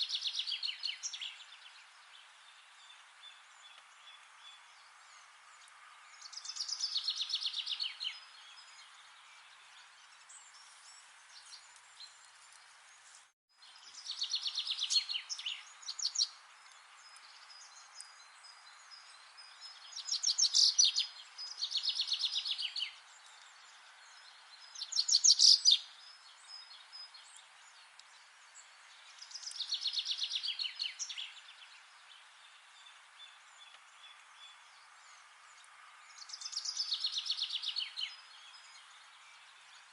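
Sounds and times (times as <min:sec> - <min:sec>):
songbird singing trilled song: 0:00.0 - 0:12.6, 0:13.6 - 0:39.9
faint background hiss: 0:00.0 - 0:39.9.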